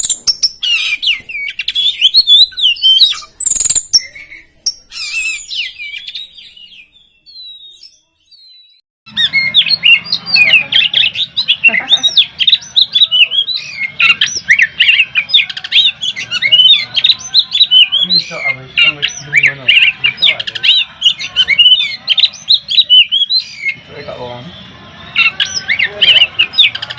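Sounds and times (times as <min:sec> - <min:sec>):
bird singing whistles and chatter: 0:00.0 - 0:24.4, 0:25.1 - 0:26.9.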